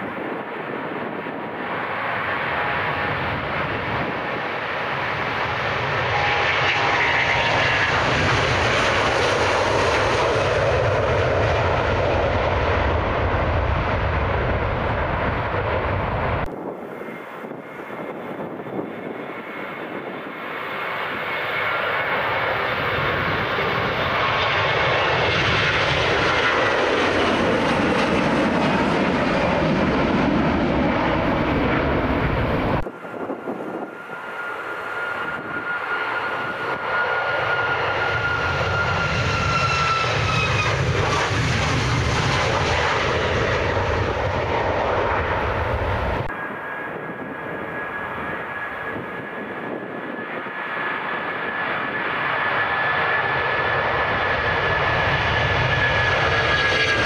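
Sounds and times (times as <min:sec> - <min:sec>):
jet airliner taking off: 0:00.0 - 0:57.0.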